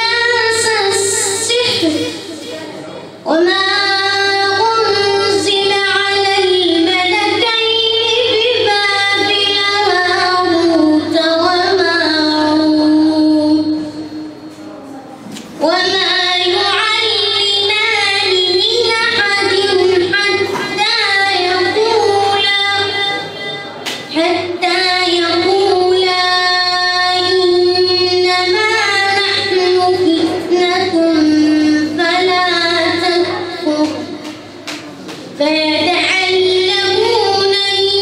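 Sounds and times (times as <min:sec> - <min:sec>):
boy reciting melodically: 0:00.0 - 0:38.0.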